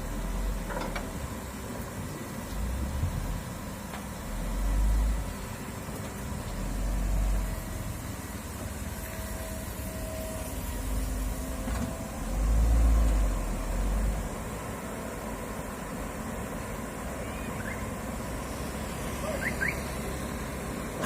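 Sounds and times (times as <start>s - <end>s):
excavator engine rumbling: 0.0s - 21.0s.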